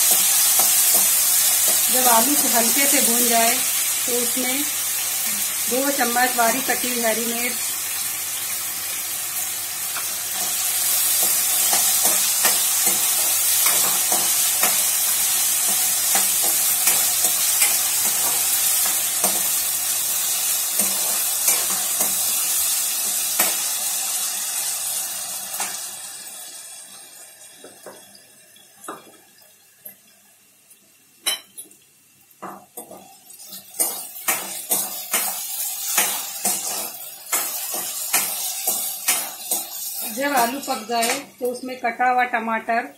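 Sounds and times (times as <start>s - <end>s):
potatoes sizzling in hot oil: 0.0s - 42.9s.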